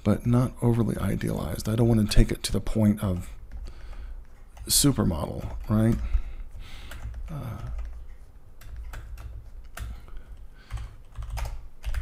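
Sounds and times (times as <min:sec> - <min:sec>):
low steady hum: 0:00.0 - 0:12.0
keyboard keys clicking: 0:01.6 - 0:12.0.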